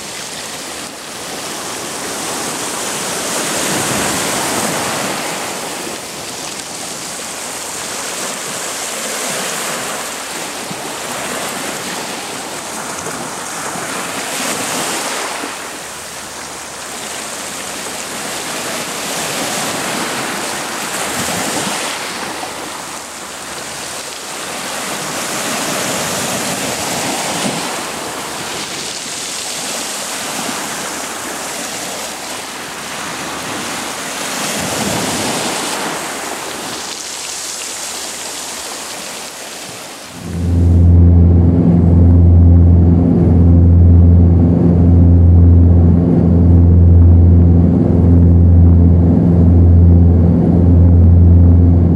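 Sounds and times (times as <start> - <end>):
waves washing in: 0.0 - 51.9
wind: 0.0 - 51.9.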